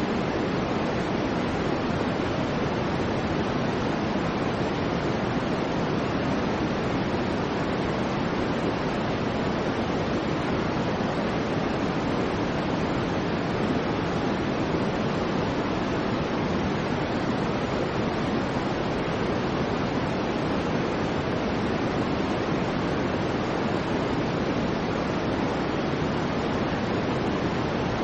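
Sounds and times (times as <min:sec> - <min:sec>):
white noise hiss: 0:00.0 - 0:28.0.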